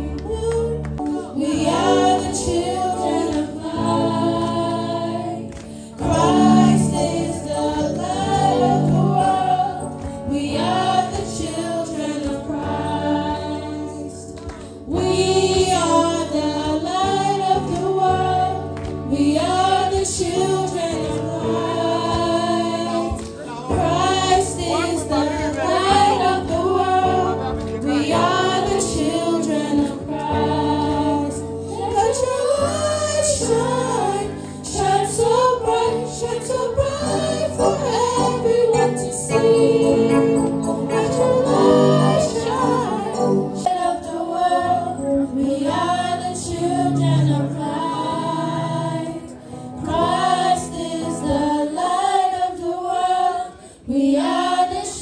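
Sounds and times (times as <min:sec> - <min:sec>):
choir singing gospel: 0:00.0 - 0:55.0.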